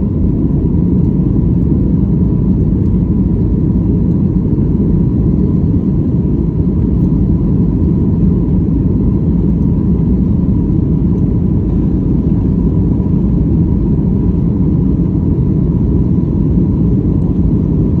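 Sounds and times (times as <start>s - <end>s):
faint jet engine whine: 0.0s - 18.0s
jet engines rumbling: 0.0s - 18.0s.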